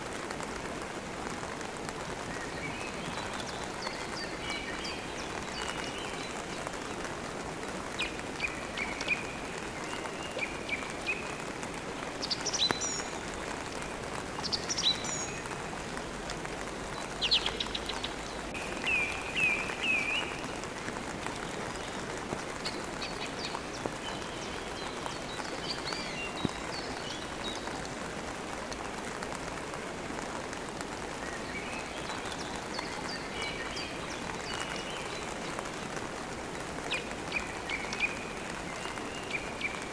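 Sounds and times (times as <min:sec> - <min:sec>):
steady rain: 0:00.0 - 0:39.9
songbirds chirping: 0:01.6 - 0:39.9.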